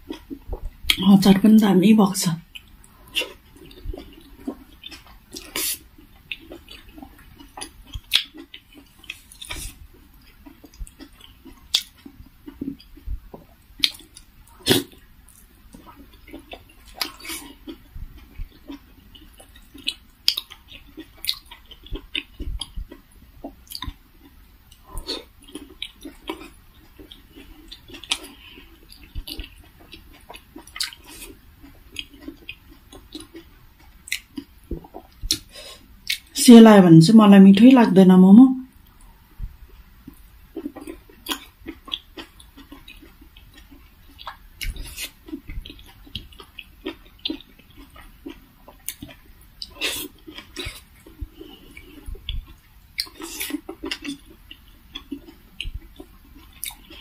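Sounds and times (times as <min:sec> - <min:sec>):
chewing and wet mouth sounds: 0:00.0 - 0:01.4, 0:02.4 - 0:36.4, 0:38.7 - 0:57.0.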